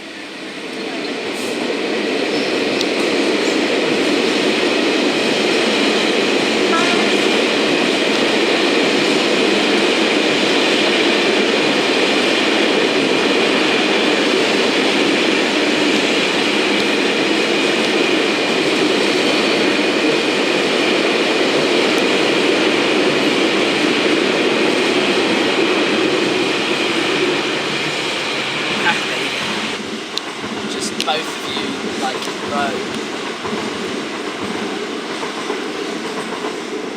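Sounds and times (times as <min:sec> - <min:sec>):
train wheels on track: 0:00.0 - 0:36.9.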